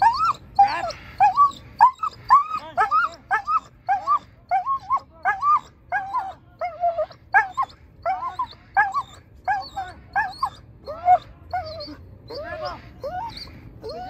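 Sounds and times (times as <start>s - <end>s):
dog yipping and whining: 0.0s - 14.0s.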